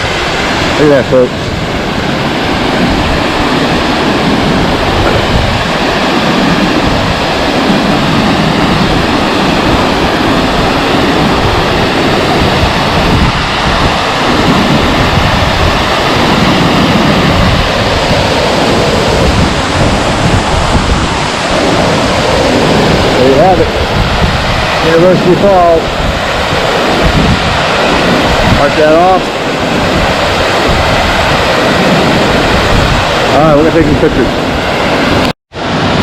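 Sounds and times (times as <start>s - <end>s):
waterfall rushing: 0.0s - 36.0s
wind buffeting microphone: 0.0s - 36.0s.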